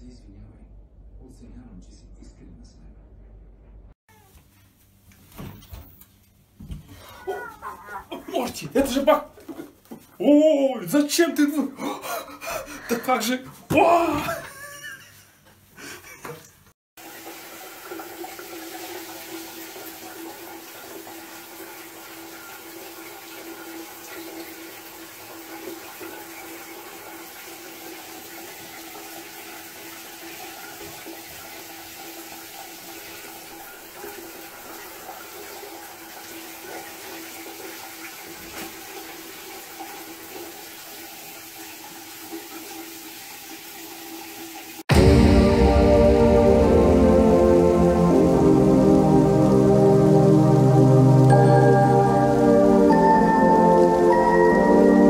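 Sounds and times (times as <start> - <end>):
shower water on tiled floor: 4.1 - 12.9, 13.5 - 55.0.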